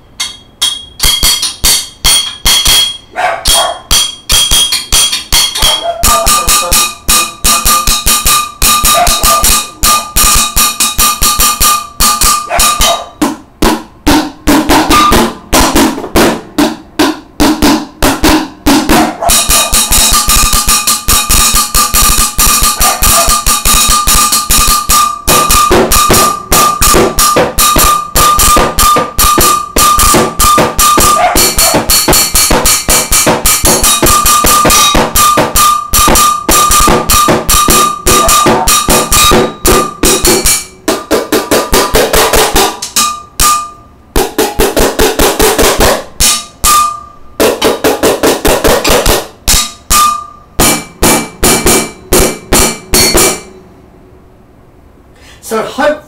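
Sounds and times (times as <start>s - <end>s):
sticks drumming on steel pot: 0.2s - 53.6s.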